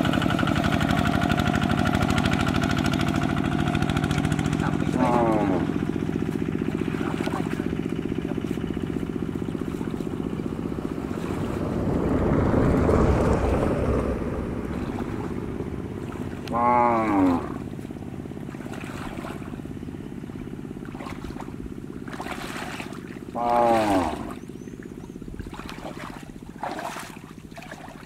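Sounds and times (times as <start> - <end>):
low machine hum: 0.0 - 28.0
water sloshing and splashing: 0.0 - 28.0.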